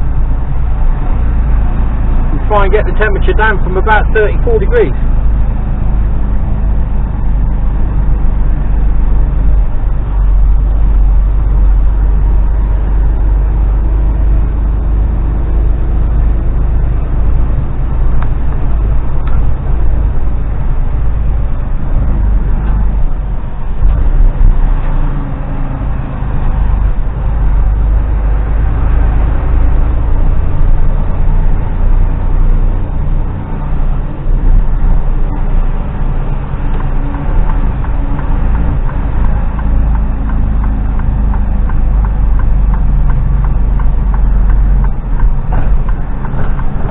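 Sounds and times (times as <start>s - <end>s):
truck diesel engine rumble: 0.0s - 46.9s.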